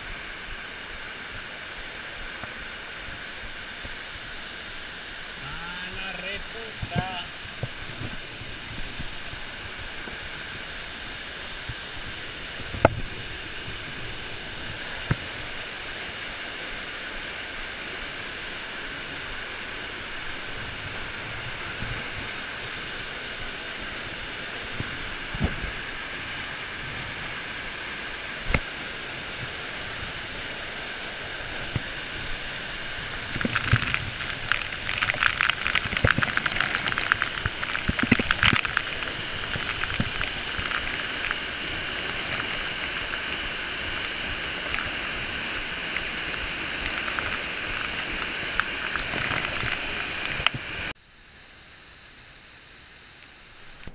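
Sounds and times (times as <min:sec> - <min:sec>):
spatter of falling water: 0:00.0 - 0:51.0
waterfall rushing: 0:00.0 - 0:51.0.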